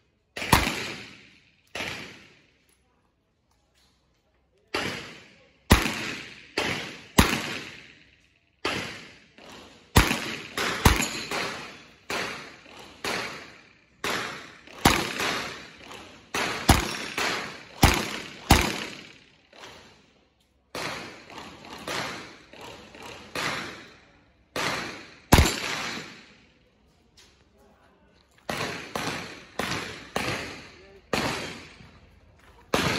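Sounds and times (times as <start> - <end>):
revolver gunshots with echo: 0.3 - 2.6, 4.7 - 20.0, 20.7 - 26.5, 28.4 - 32.9.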